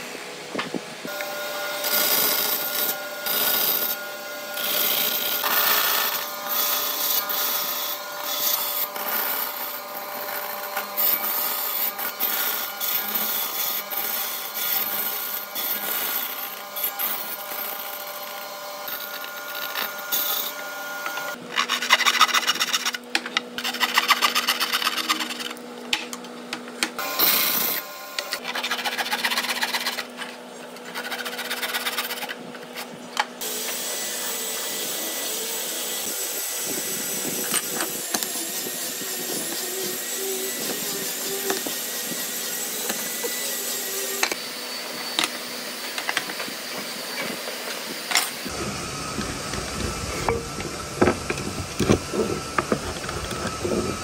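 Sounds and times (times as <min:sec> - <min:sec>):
band saw cutting wood: 0:01.0 - 0:25.7, 0:27.0 - 0:54.0
hand saw cutting wood: 0:01.8 - 0:25.6, 0:27.0 - 0:54.0.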